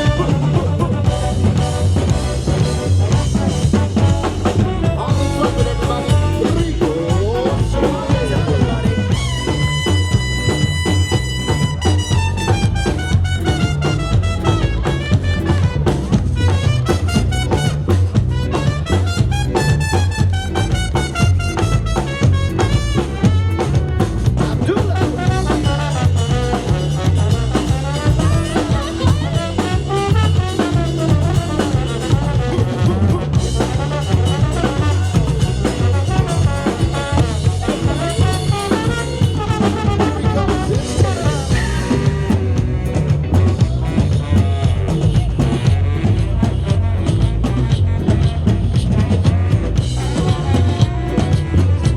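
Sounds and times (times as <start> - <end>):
drum kit: 0.0 - 51.9
swing band horns: 0.0 - 51.9.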